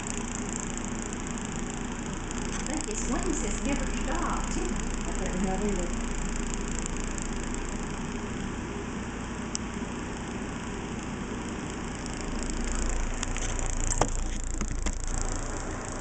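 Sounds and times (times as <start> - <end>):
room noise hum: 0.0 - 16.0.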